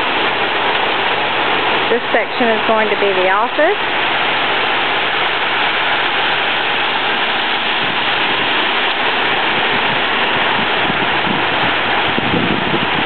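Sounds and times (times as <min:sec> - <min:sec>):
wet concrete rushing down chute: 0:00.0 - 0:13.0.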